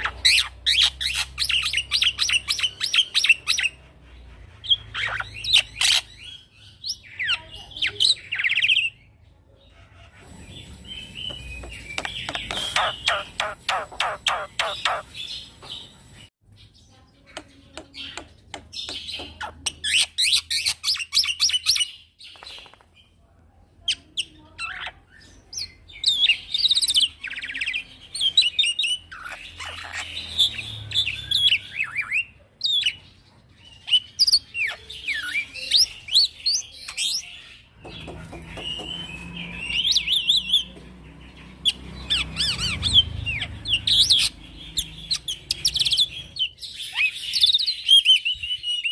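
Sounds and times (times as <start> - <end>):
bird singing chirps and trills: 0.0 - 23.2, 23.8 - 48.9.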